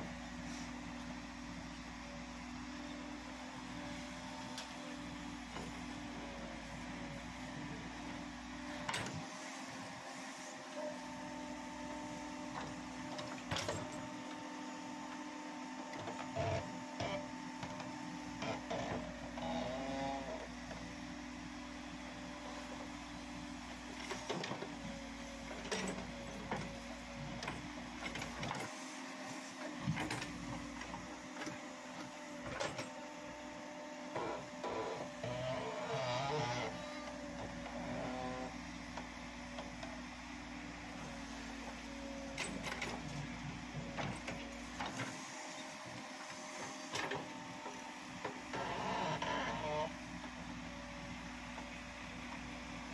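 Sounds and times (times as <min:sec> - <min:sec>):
backhoe engine and hydraulic hum: 0:00.0 - 0:52.9.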